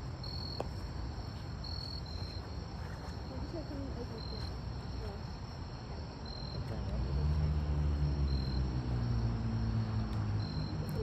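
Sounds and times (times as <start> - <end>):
cricket chirping: 0.0 - 11.0
outdoor background hiss: 0.0 - 11.0.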